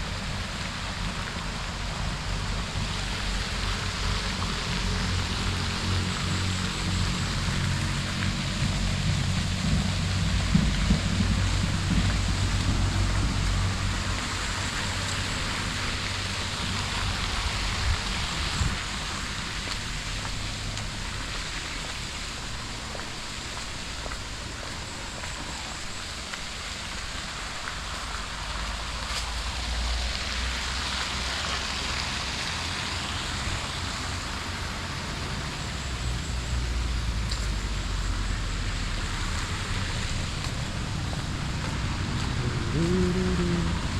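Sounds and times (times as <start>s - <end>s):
low wavering rumble: 0.0s - 26.0s, 32.7s - 43.9s
even hiss: 0.0s - 43.9s.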